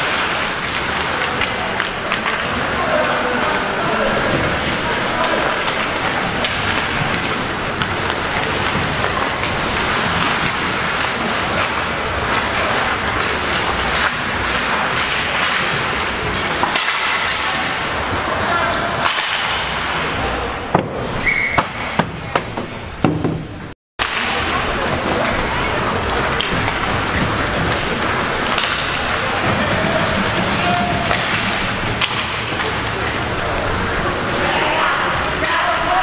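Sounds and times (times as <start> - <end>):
hockey sticks cracking on puck: 0.0 - 17.9, 18.7 - 20.1, 24.0 - 36.0.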